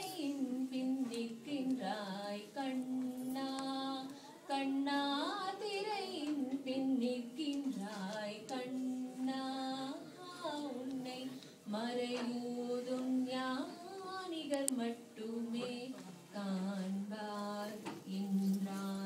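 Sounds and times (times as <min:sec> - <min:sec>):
child singing: 0:00.0 - 0:19.0
woman singing: 0:00.0 - 0:19.0.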